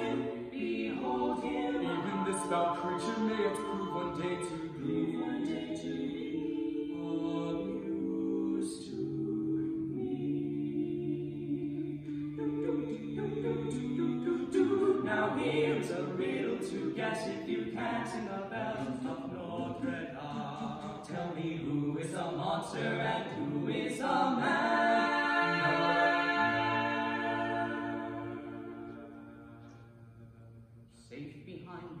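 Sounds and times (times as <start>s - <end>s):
male quartet singing a cappella: 0.0s - 30.3s.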